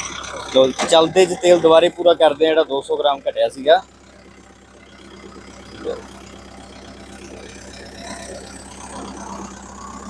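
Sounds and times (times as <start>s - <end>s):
diesel tractor engine idling: 0.0s - 10.0s.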